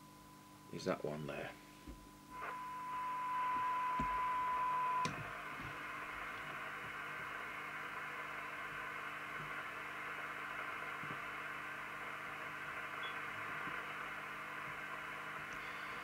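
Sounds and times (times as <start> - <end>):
faint low hum: 0.0 - 16.0
radio speaker hiss: 0.8 - 16.0.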